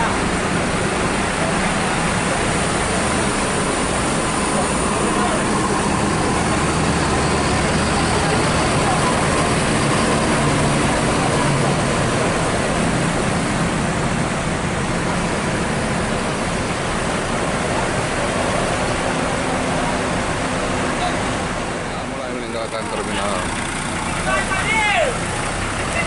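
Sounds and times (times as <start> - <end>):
low engine hum: 0.0 - 26.0
road traffic rushing: 0.0 - 26.0.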